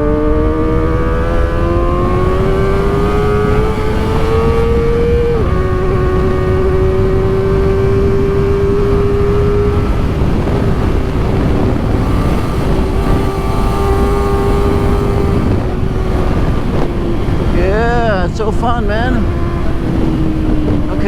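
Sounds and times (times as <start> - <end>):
motorcycle engine at high revs: 0.0 - 21.0
wind and road rush: 0.0 - 21.0.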